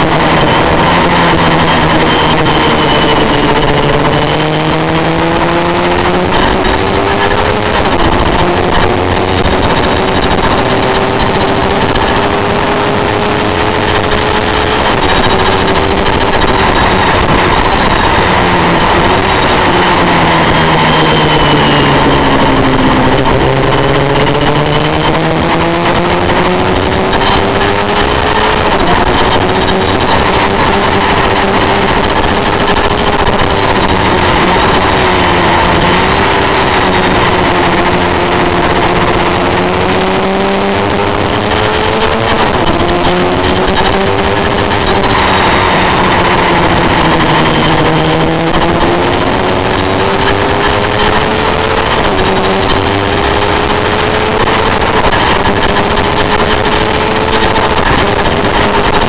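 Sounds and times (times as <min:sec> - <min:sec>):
motorcycle engine at high revs: 0:00.0 - 0:59.0
wind rush: 0:00.0 - 0:59.0.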